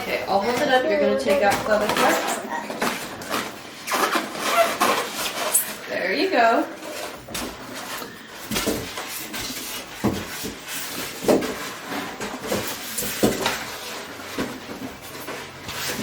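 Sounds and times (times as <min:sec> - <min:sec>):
packaging rustling and scraping: 0:00.0 - 0:16.0.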